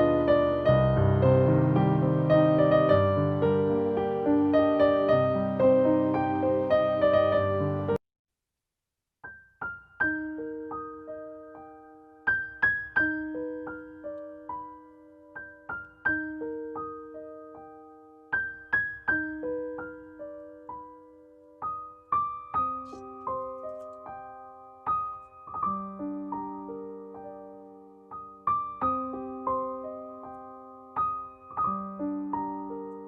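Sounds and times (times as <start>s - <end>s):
gentle solo piano melody: 0.0s - 8.0s, 9.2s - 33.0s.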